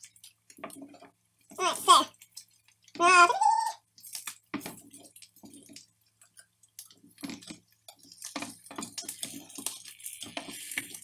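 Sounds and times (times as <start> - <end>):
wooden spatula on frying pan: 0.0 - 11.0.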